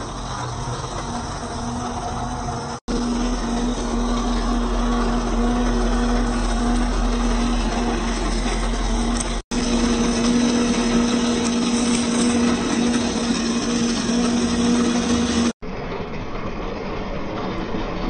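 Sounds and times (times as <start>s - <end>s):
electric motor whine: 0.0s - 15.6s.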